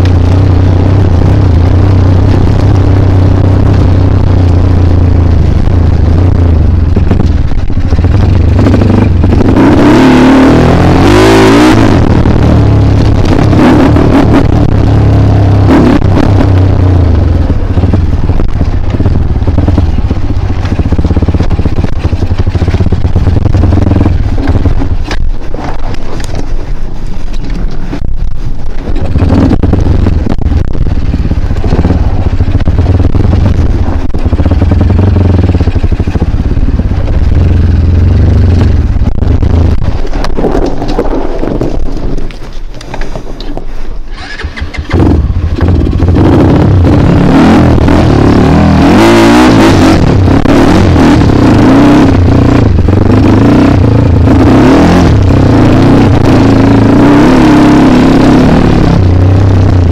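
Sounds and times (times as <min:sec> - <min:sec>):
dirt bike engine revving: 0:00.0 - 0:25.3, 0:29.0 - 0:40.5, 0:44.1 - 0:59.9.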